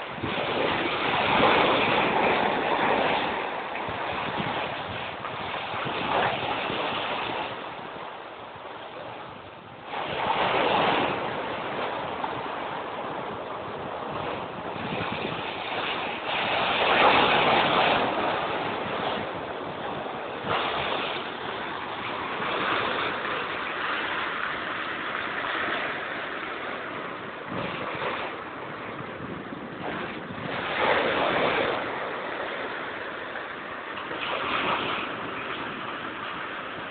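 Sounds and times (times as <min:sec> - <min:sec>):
big waves crashing: 0:00.0 - 0:36.9.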